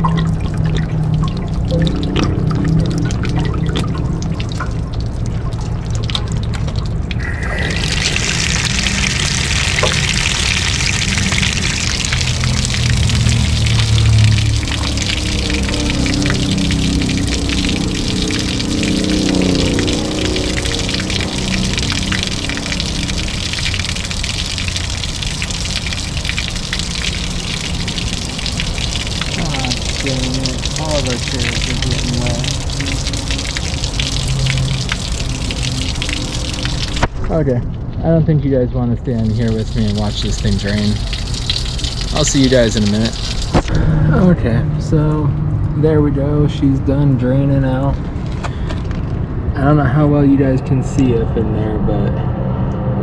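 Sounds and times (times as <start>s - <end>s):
water draining from tank: 0.0s - 37.4s, 38.8s - 44.0s, 47.9s - 49.2s.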